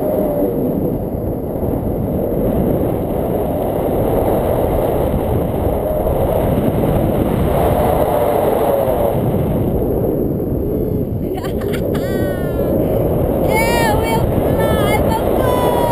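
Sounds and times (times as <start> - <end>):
wind buffeting microphone: 0.8 - 15.9.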